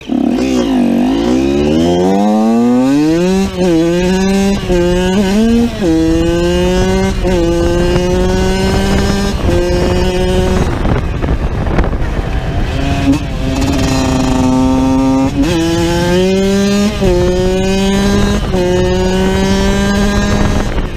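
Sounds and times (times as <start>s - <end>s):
two-stroke motorbike engine revving: 0.0s - 20.9s.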